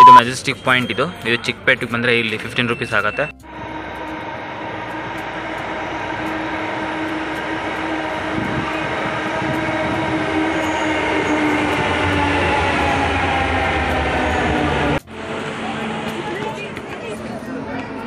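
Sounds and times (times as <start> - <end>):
metro train arriving: 0.0 - 18.0
train whine: 2.5 - 18.0
deep rumble of passing cars: 3.4 - 18.0.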